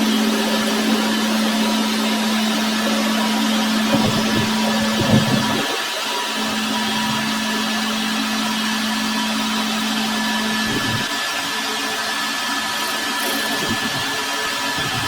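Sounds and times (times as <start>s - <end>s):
power machinery hiss and whine: 0.0s - 15.0s.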